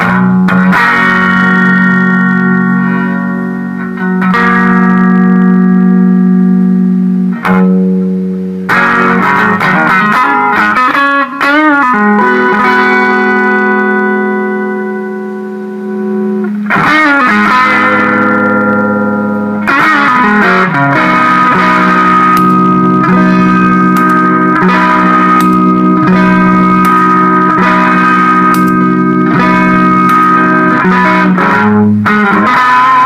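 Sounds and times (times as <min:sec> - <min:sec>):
distorted electric guitar: 0:00.0 - 0:33.0.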